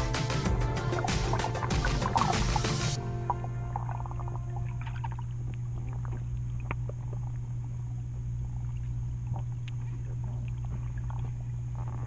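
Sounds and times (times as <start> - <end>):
underwater low hum: 0.0 - 12.0.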